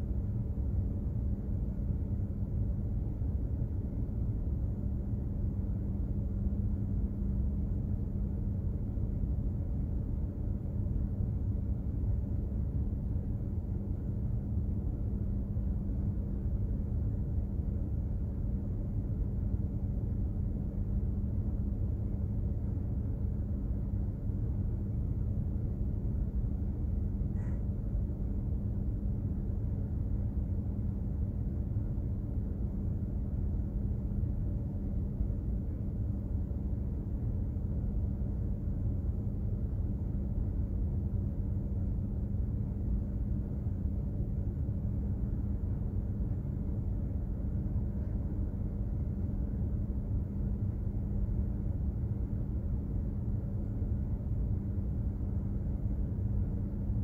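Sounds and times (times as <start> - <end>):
constant hum: 0.0 - 57.0.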